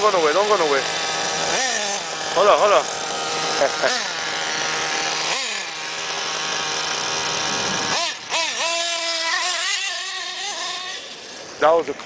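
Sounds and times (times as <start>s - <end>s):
model car engine buzzing: 0.0s - 12.0s.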